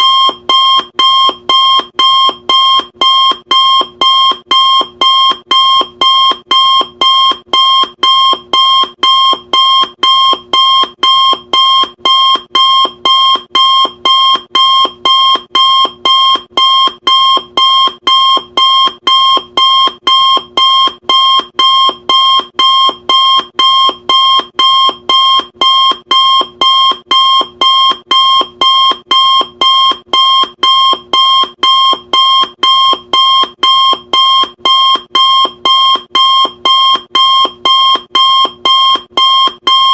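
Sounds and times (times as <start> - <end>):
high-pitched timer alarm beeps: 0.0 - 39.9.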